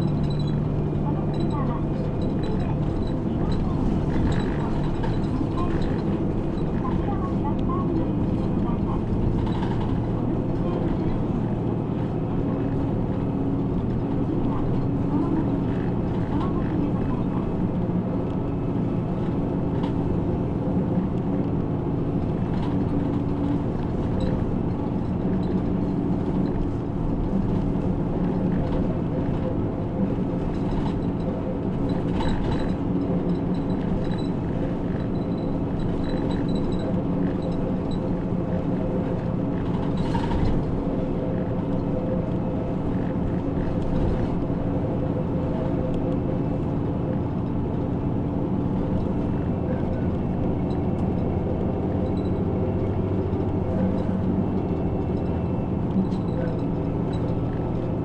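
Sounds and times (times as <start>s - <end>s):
bus engine drone: 0.0s - 58.0s
tyre and road noise: 0.0s - 58.0s.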